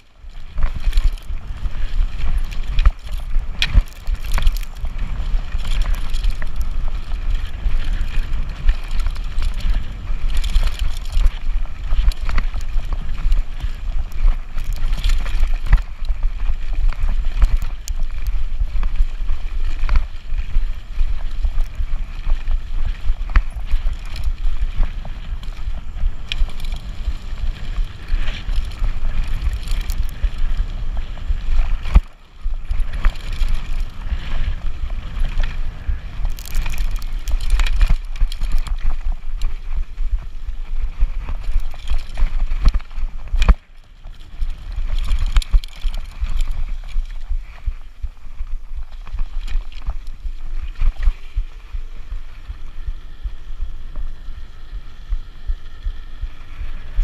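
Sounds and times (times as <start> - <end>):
tyre rumble on trail: 0.0 - 57.0
wind buffeting microphone: 0.0 - 57.0
bike knocks and rattles: 0.3 - 50.0.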